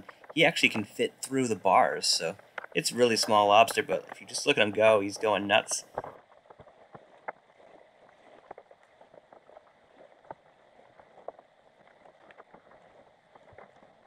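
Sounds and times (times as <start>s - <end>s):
underwater clicks and ticks: 0.0s - 14.0s.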